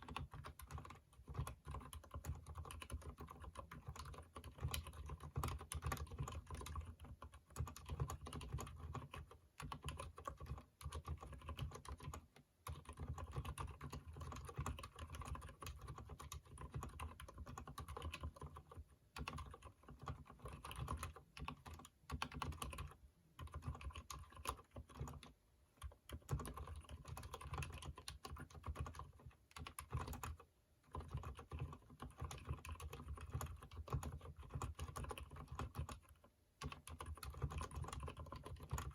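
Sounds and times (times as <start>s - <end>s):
keyboard typing: 0.0s - 38.9s.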